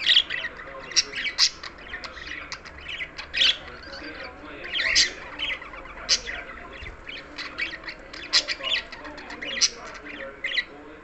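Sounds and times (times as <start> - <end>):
budgerigar chattering: 0.0 - 10.7.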